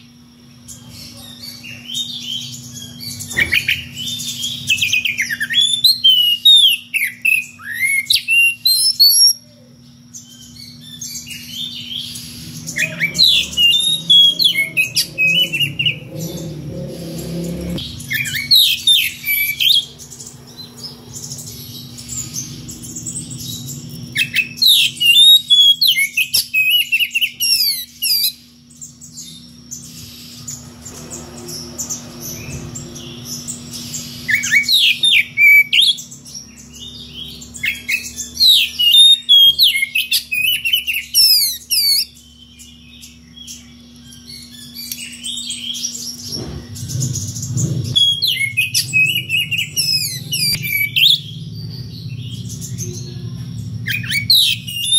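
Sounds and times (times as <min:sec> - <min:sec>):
bird singing whistled chirping notes: 0:00.0 - 0:54.9
faint low hum: 0:00.0 - 0:54.9.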